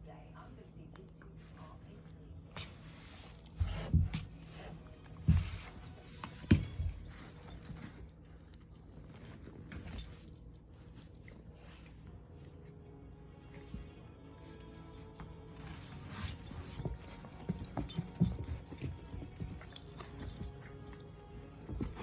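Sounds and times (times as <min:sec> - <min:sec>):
puppy scuffling and rustling: 0:00.4 - 0:22.0.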